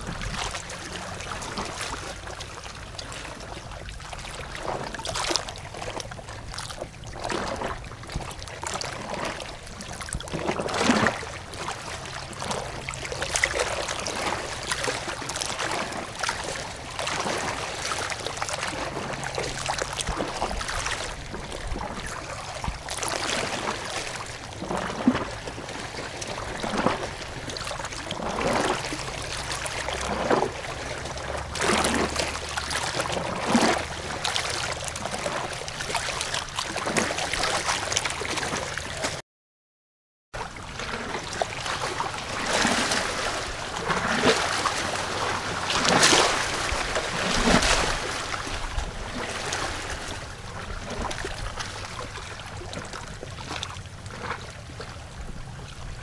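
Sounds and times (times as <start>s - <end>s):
water splashing and gurgling: 0.0s - 39.2s, 40.4s - 56.0s.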